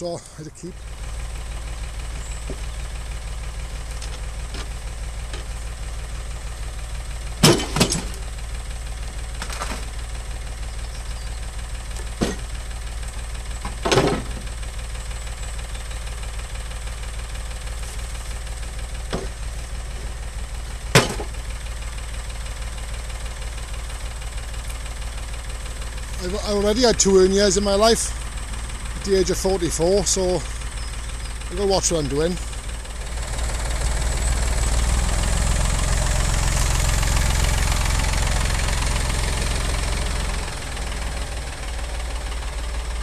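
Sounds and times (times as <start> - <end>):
tractor engine idling: 0.0 - 43.0.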